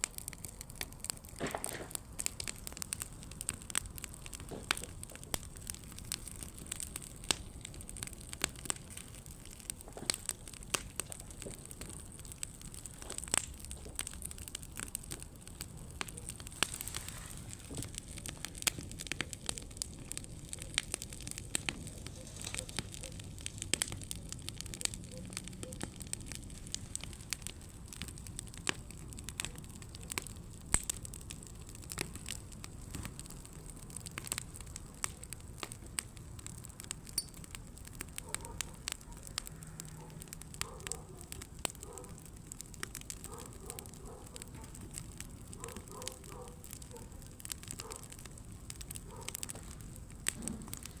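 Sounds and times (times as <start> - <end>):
campfire crackling: 0.0 - 51.0.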